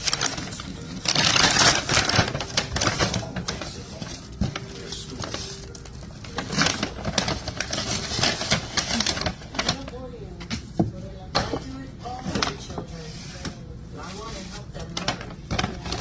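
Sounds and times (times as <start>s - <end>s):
paper bags rustling: 0.0s - 16.0s.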